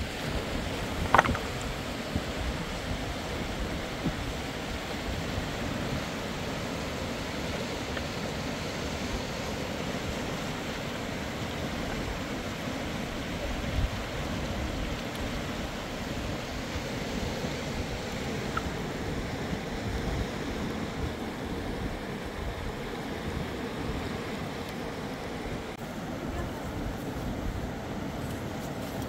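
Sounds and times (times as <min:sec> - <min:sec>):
river rushing over stones: 0:00.0 - 0:29.0.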